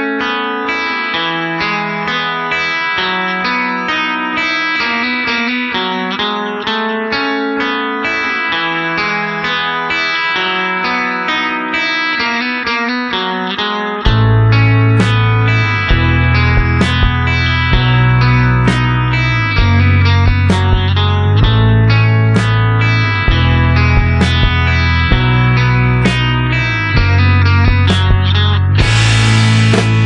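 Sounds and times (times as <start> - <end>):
plucked guitar notes: 0.0 - 30.0.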